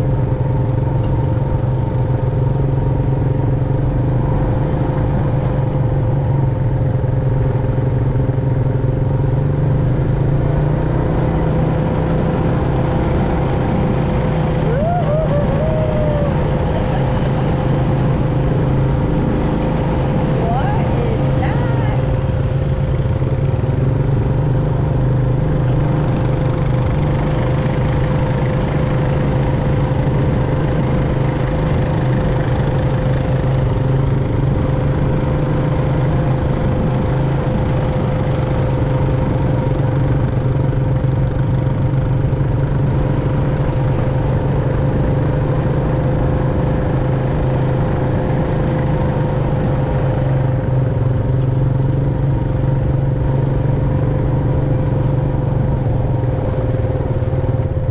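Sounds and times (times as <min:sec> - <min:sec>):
atv engine droning: 0:00.0 - 0:57.9.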